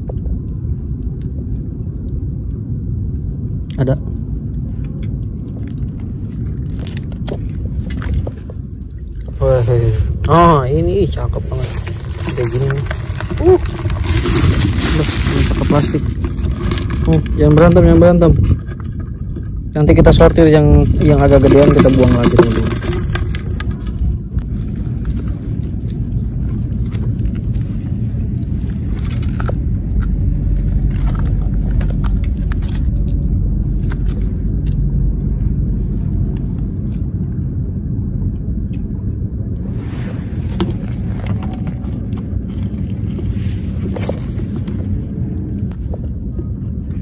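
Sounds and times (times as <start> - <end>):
low rumble: 0.0 - 47.0.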